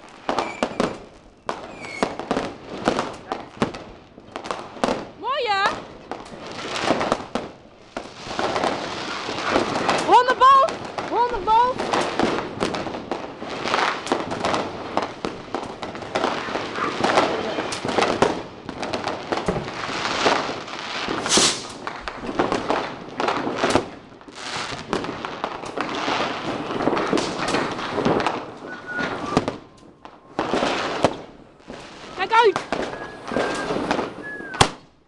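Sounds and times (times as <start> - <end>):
fireworks and firecrackers banging: 0.0 - 35.0.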